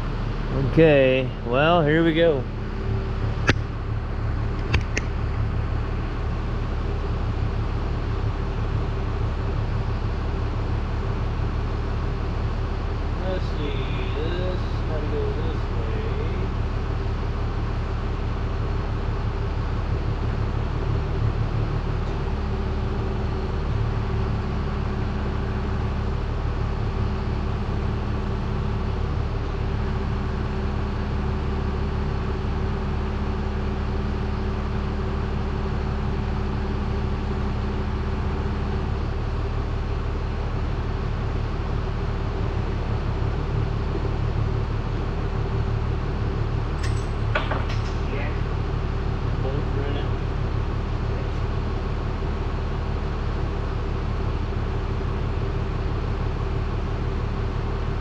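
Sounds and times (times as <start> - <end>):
machinery droning: 0.0 - 58.0
steady hum: 0.0 - 58.0.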